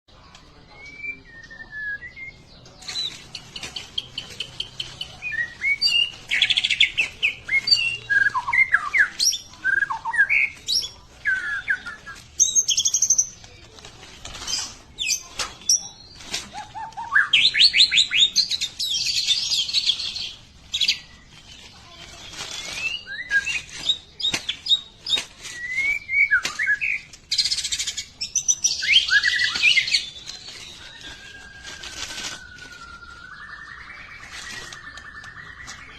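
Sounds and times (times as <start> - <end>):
songbird singing: 0.1 - 35.9.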